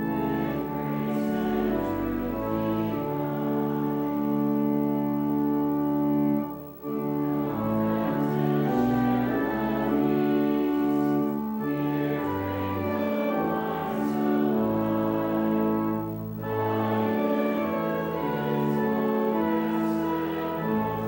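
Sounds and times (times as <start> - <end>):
church organ chords: 0.0 - 21.0.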